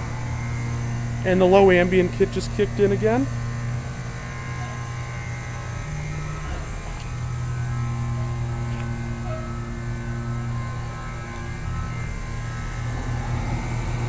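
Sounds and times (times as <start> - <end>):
condensing units humming: 0.0 - 14.0.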